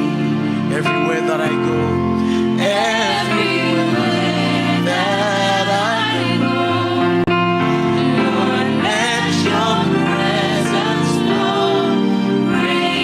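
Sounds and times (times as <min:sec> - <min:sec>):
person singing worship melody: 0:00.0 - 0:13.0
sustained instrumental chords: 0:00.0 - 0:13.0.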